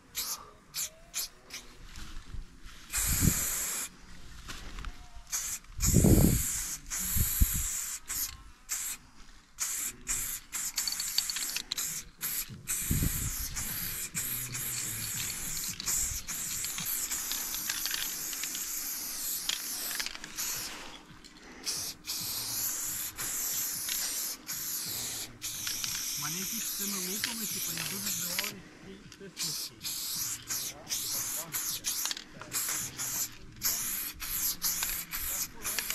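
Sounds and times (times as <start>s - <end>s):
spray paint can hissing: 0.0s - 1.7s, 2.9s - 3.9s, 5.3s - 9.0s, 9.6s - 28.6s, 29.4s - 35.9s.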